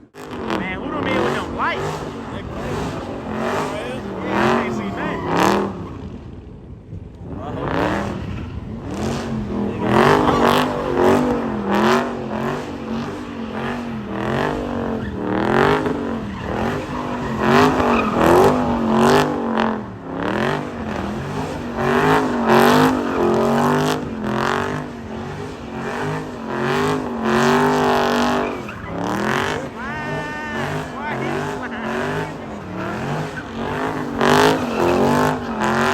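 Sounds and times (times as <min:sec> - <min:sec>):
car engine revving: 0:00.0 - 0:35.9
tire squeal: 0:00.2 - 0:06.5, 0:07.2 - 0:35.9.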